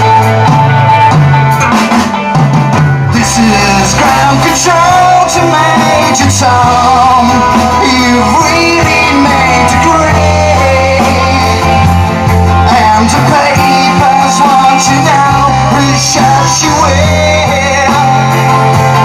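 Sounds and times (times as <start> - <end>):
bass guitar: 0.0 - 19.0
drums: 0.0 - 19.0
electric guitars: 0.0 - 19.0
person singing: 3.1 - 19.0.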